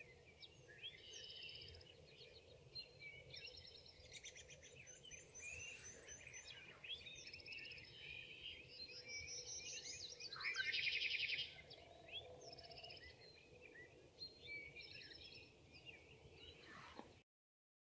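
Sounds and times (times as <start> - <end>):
birds chirping and trilling: 0.0 - 17.2.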